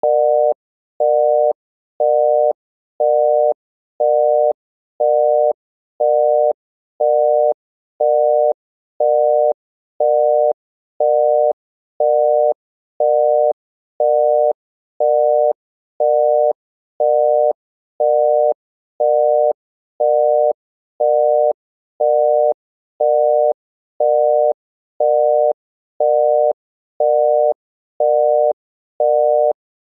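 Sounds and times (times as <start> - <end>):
telephone busy signal beeping: 0.0 - 29.6.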